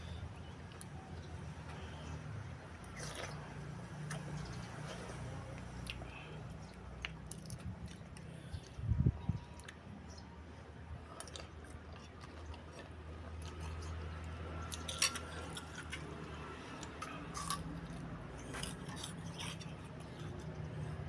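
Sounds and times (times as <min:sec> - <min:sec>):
soft chewing: 0:00.0 - 0:10.3, 0:10.9 - 0:21.0.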